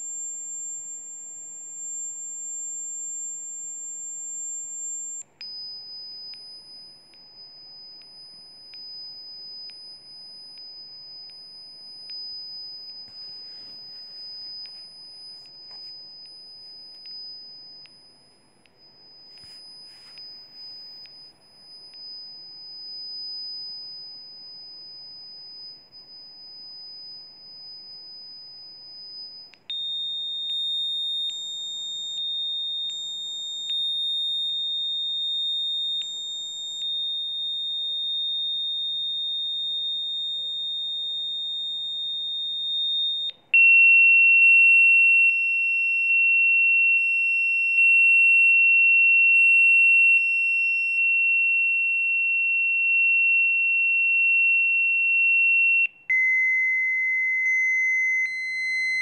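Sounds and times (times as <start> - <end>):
high-pitched electronic sine tones: 0.0 - 59.0.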